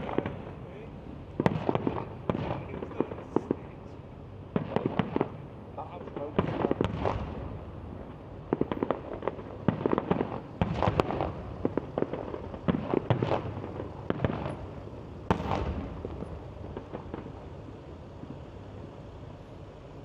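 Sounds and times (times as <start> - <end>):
fireworks bangs and crackles: 0.0 - 19.1.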